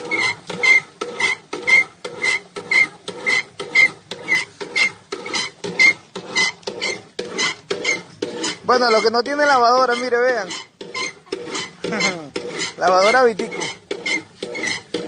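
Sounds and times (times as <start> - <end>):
short squeak: 0.0 - 9.0, 9.9 - 12.8, 13.5 - 14.9
washing machine agitator scraping: 0.0 - 15.0.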